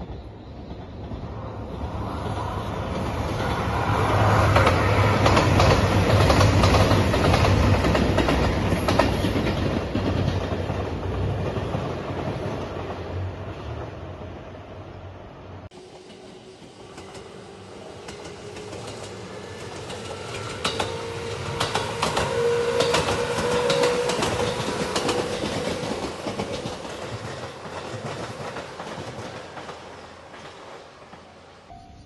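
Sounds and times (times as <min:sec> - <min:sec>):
train wheels clacking: 0:00.0 - 0:13.0, 0:15.7 - 0:31.7.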